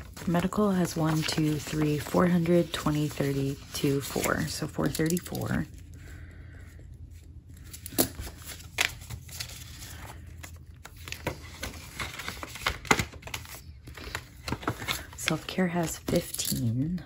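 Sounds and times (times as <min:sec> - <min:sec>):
paper rustling and crinkling: 0:00.0 - 0:06.0, 0:07.0 - 0:16.7.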